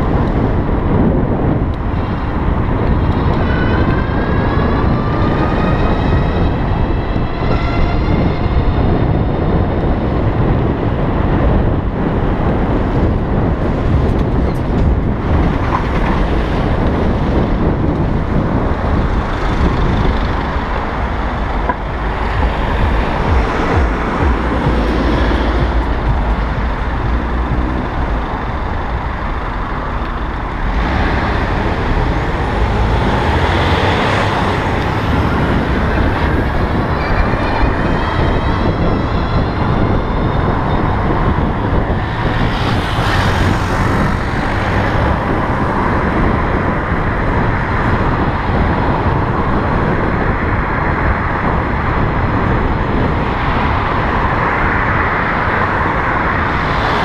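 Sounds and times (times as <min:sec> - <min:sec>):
road and traffic noise: 0:00.0 - 0:57.0
wind noise: 0:00.0 - 0:57.0.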